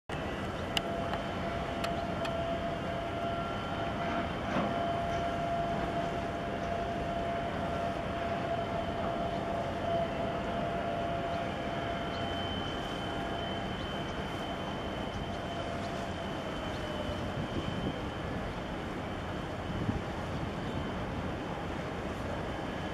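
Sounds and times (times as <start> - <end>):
ship machinery drone: 0.1 - 22.9.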